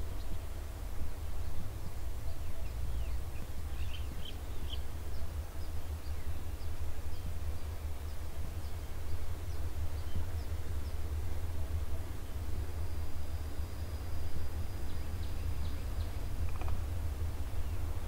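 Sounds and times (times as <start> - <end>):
steady low rumble: 0.0 - 18.0
birds chirping: 1.2 - 18.0.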